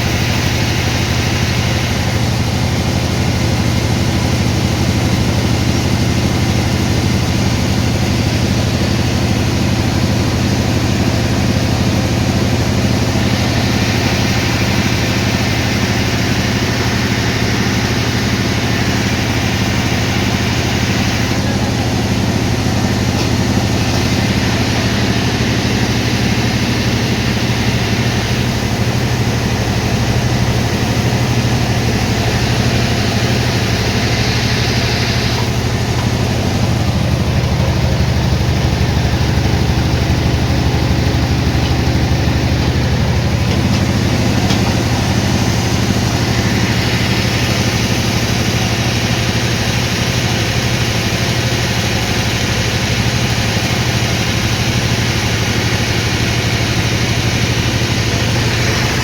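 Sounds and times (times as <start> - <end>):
saw hissing through a log: 0.0 - 59.0
sawmill engine drone: 0.0 - 59.0.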